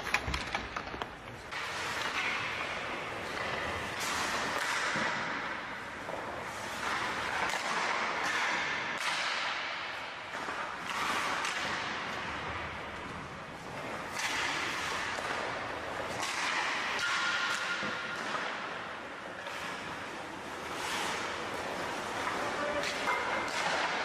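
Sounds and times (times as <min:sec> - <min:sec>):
echo through empty arena: 0:00.0 - 0:24.0
hockey stick striking puck: 0:00.0 - 0:24.0.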